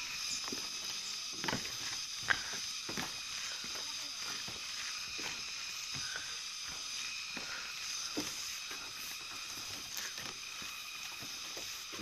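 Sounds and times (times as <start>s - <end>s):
footsteps on bamboo bridge: 0.0s - 12.0s
steady high hiss: 0.0s - 12.0s.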